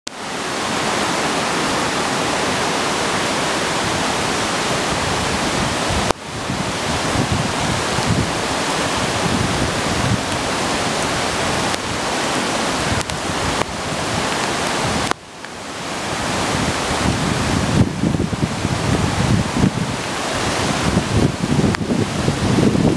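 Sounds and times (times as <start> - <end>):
storm wind rushing: 0.4 - 22.9
wind buffeting microphone: 1.9 - 22.9.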